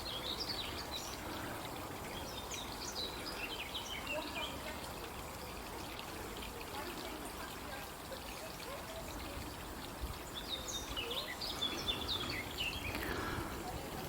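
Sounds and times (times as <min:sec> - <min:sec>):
water trickling in stream: 0:00.0 - 0:14.0.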